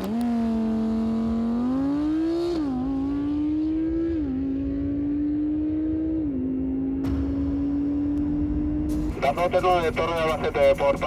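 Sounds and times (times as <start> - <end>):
sports car engine accelerating hard: 0.0 - 9.2.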